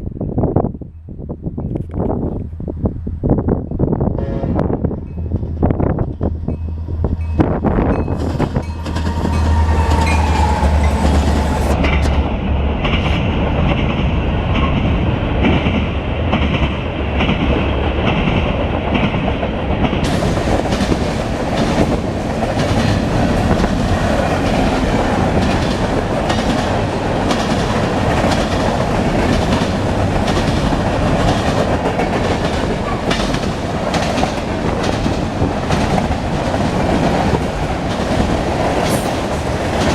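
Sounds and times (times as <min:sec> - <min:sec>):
diesel locomotive engine hum: 0:00.0 - 0:39.9
train wheels clattering on rails: 0:07.4 - 0:39.9.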